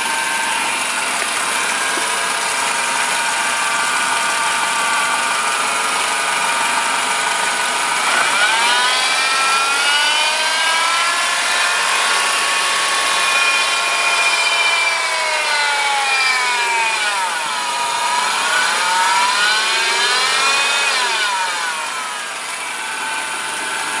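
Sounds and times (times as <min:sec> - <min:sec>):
buzzing pulley whine: 0:00.0 - 0:24.0
car engine revving: 0:00.0 - 0:24.0.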